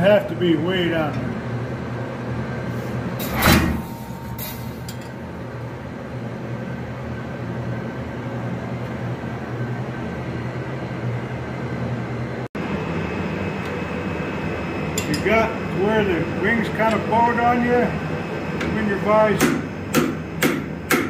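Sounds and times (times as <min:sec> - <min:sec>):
low mechanical hum with rushing: 0:00.0 - 0:21.0.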